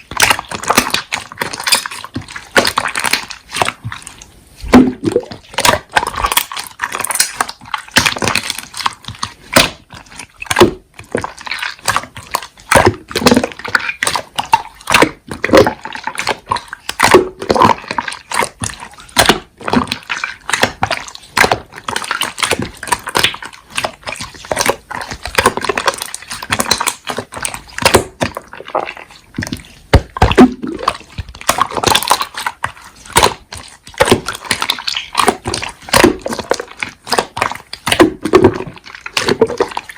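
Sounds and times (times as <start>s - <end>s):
slime squishing and popping: 0.0s - 39.9s.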